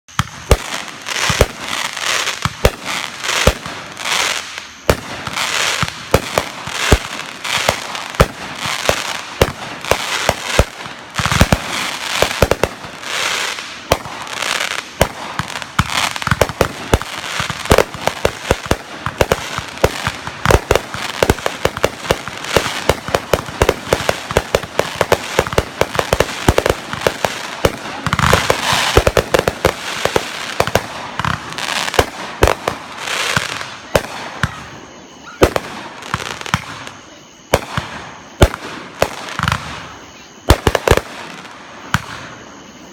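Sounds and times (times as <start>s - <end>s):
fireworks banging and crackling: 0.1s - 42.9s.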